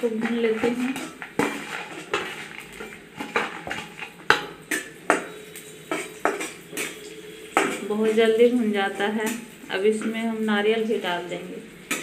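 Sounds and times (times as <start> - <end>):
metal spoon clanking on metal pan: 0.0 - 10.5.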